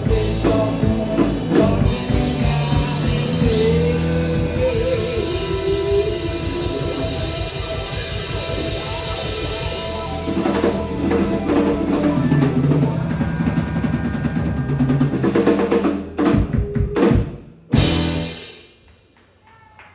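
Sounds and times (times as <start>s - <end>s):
live rock band: 0.0s - 18.8s
drum roll: 0.0s - 18.9s.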